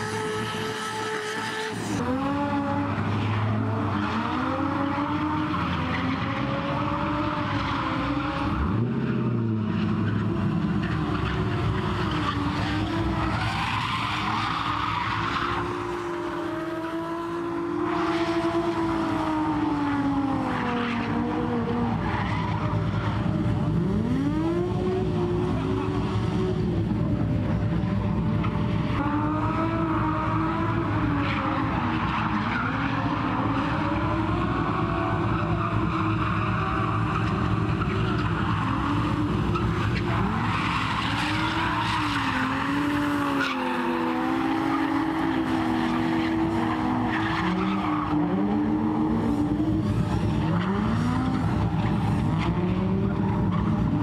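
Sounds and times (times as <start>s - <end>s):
car engines revving: 0.0s - 54.0s
tyres skidding: 0.0s - 54.0s.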